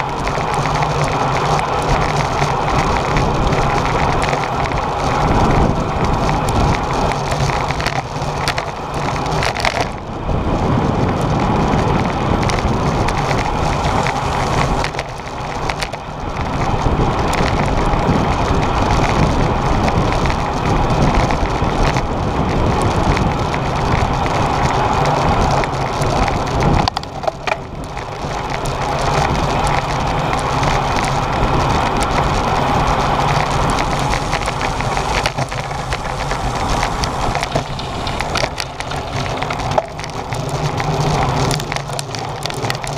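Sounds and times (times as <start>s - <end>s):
tyre rumble on road: 0.0s - 42.9s
wind buffeting microphone: 0.0s - 42.9s.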